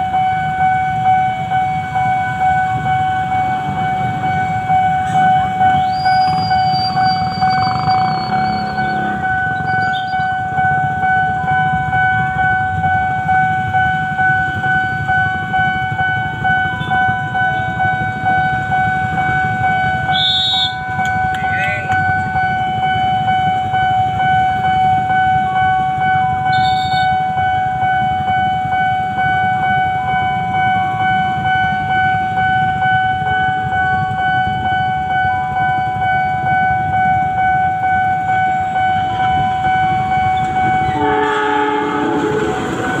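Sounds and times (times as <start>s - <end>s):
level crossing alarm tone: 0.0s - 43.0s
low rumble of trains: 0.0s - 43.0s.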